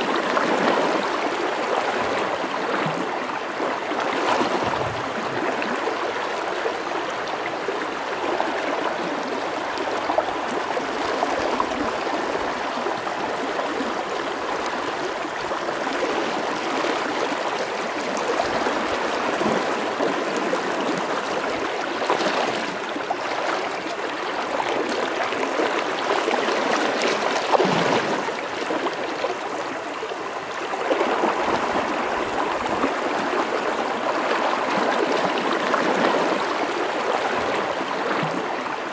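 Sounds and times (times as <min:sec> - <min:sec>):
river water rushing over rapids: 0:00.0 - 0:38.9.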